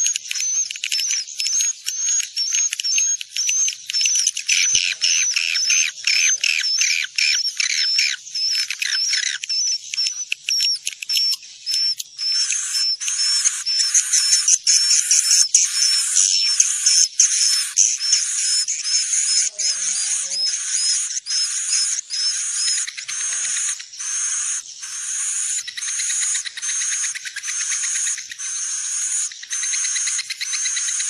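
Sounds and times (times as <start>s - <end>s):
swiftlets twittering: 0.0s - 31.0s.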